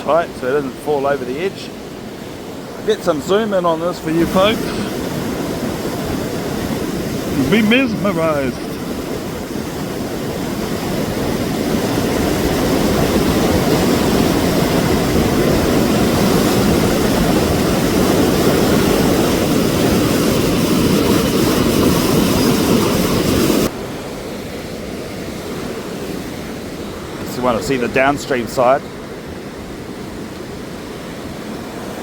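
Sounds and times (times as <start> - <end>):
quieter water rush: 0.0 - 32.0
waterfall roaring: 0.0 - 32.0.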